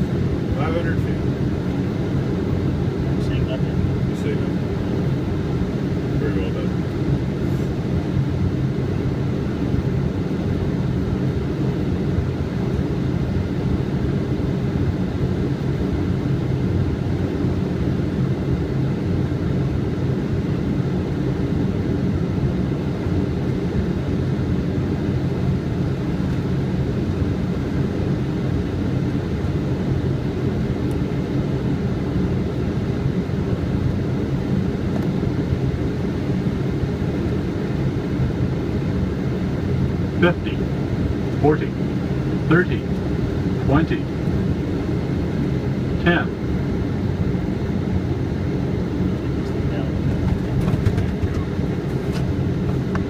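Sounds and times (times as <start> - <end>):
cockpit airflow and engine hum: 0.0 - 53.0.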